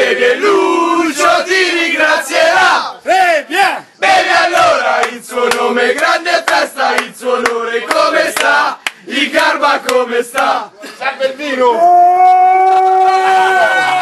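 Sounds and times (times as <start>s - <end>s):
men chanting and shouting: 0.0s - 12.8s.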